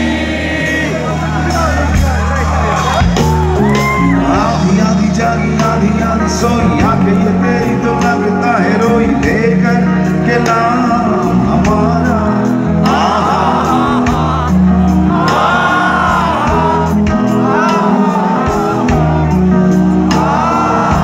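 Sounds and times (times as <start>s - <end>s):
bass guitar: 0.0s - 21.0s
person singing: 3.7s - 21.0s.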